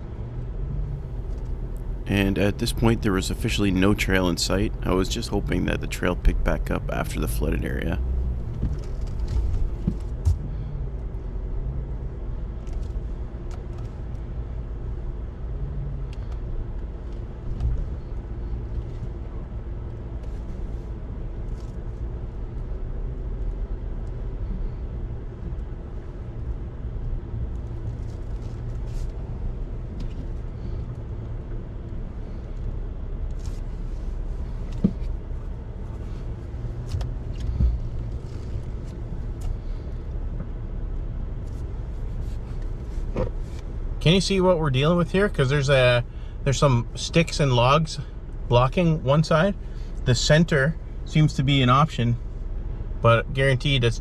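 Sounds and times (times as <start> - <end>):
truck engines rumbling: 0.0 - 54.0.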